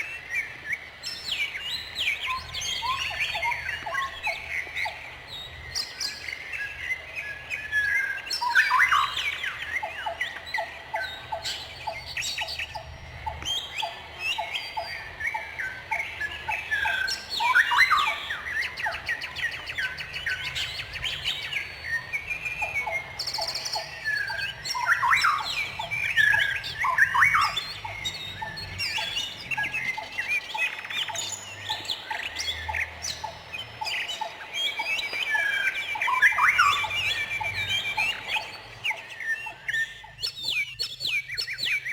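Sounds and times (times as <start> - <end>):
bird trill: 0.0 - 41.9
songbirds chirping and singing: 0.0 - 41.9.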